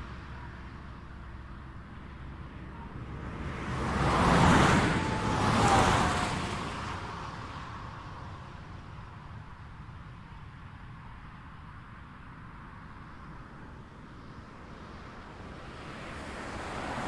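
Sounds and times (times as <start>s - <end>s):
distant traffic hum: 0.0s - 17.0s
vehicles passing close by: 0.0s - 17.0s.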